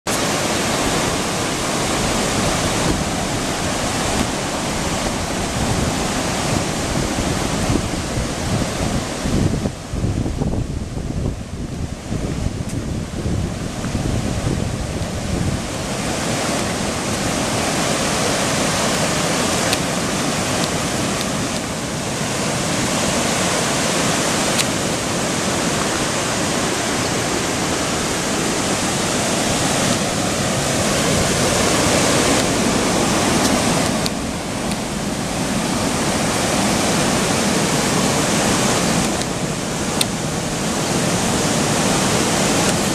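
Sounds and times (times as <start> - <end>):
floodwater rushing over rapids: 0.1 - 42.9.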